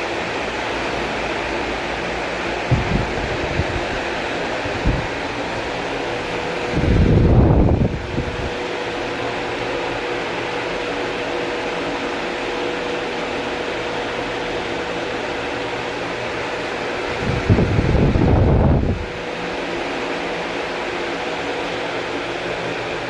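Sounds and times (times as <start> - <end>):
ceiling fan whoosh: 0.0 - 23.0
fan motor hum: 0.0 - 23.0.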